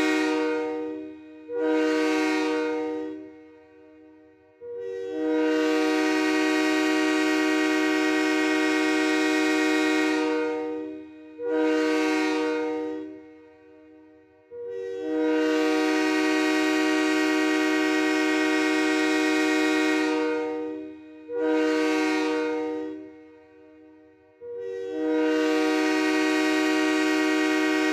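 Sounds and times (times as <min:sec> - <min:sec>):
train air horn blasts: 0:00.0 - 0:27.9.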